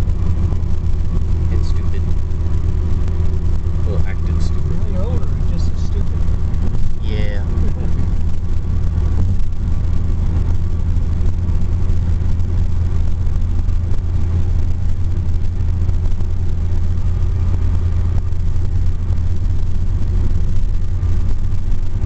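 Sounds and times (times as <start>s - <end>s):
car cabin road and engine drone: 0.0s - 22.0s.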